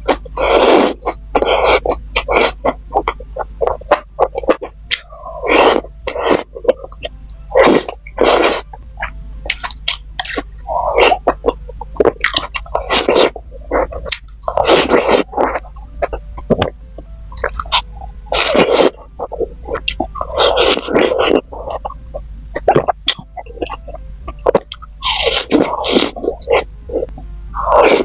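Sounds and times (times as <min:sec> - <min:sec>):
close eating sounds: 0:00.0 - 0:28.0.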